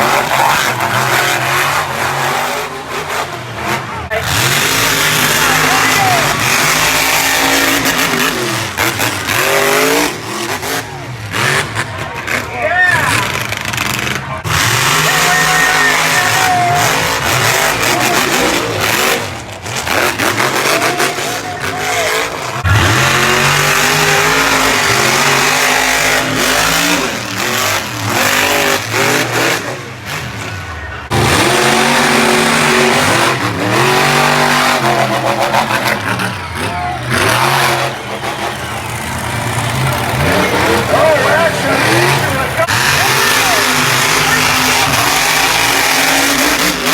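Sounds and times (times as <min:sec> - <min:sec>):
truck engine revving hard: 0:00.0 - 0:46.9.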